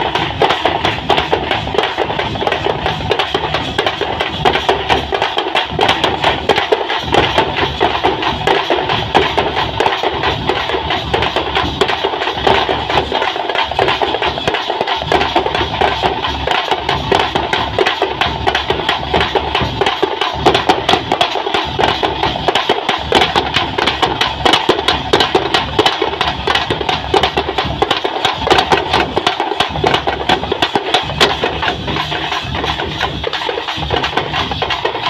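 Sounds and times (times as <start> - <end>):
deep drum strokes: 0.0 - 35.0
frame drums beaten fast: 0.0 - 35.0.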